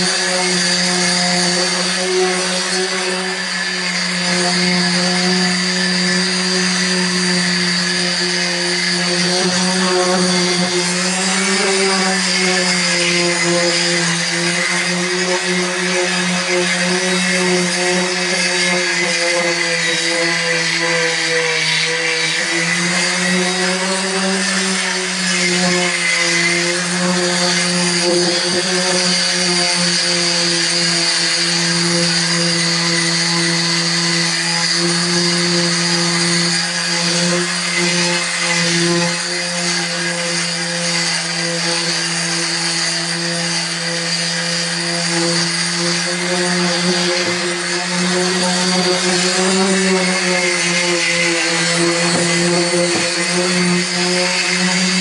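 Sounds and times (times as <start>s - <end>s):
orbital sander motor humming: 0.0s - 55.0s.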